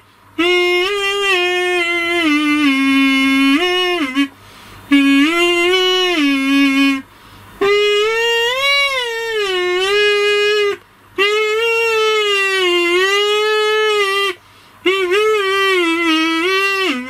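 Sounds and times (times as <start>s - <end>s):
kazoo buzzing a tune: 0.0s - 17.0s.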